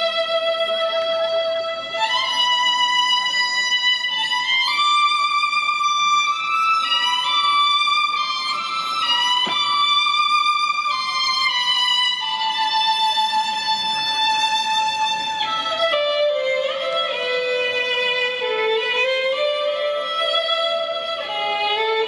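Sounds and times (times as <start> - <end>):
slow violin melody: 0.0 - 22.0.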